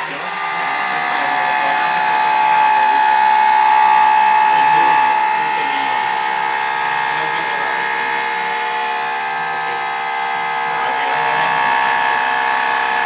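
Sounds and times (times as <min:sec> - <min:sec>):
machine motors whining: 0:00.0 - 0:13.0.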